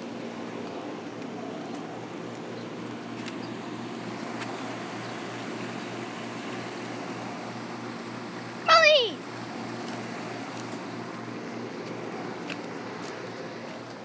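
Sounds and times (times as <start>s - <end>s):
pump hum: 0.0s - 14.0s.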